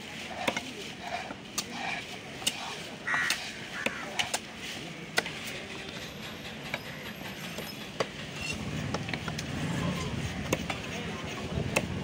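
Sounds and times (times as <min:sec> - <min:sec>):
market background noise: 0:00.0 - 0:12.0.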